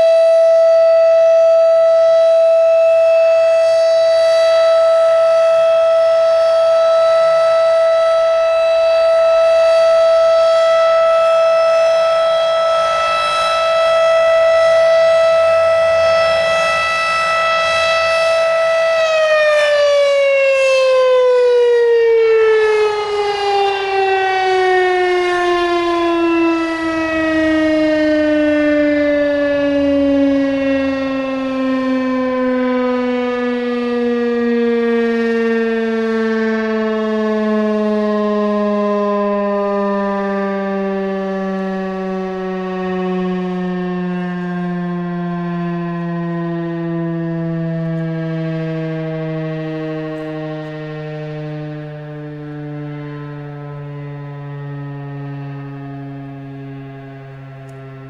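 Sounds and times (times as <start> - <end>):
warning siren alert tone: 0.0 - 58.0.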